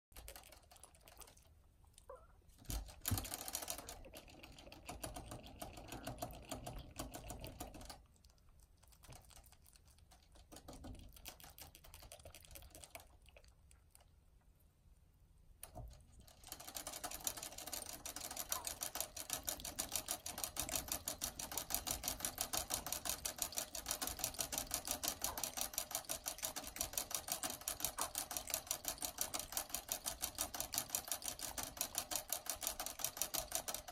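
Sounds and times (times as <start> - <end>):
rabbits licking water bottle spout: 0.1 - 14.3, 15.6 - 33.9.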